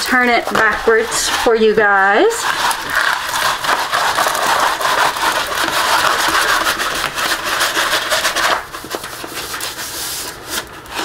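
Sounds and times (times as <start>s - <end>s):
canvas rubbing and scraping: 0.0s - 11.0s.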